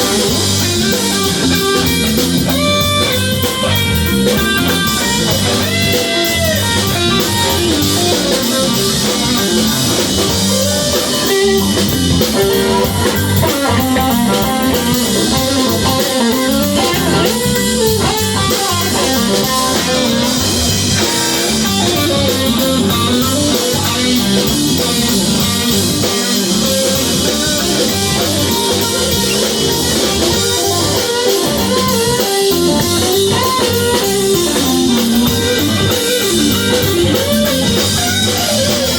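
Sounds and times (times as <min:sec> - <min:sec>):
drums: 0:00.0 - 0:38.9
guitar: 0:00.0 - 0:38.9.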